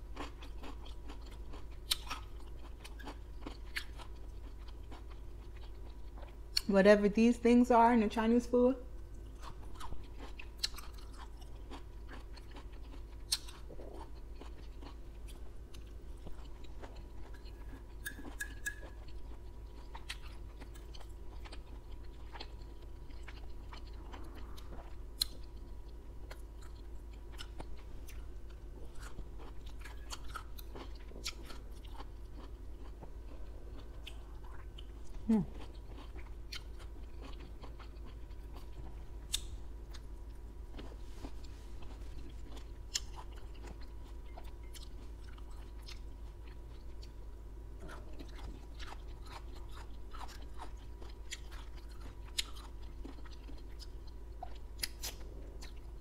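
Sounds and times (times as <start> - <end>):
chewing and crunching: 0.0 - 6.7, 9.0 - 56.0.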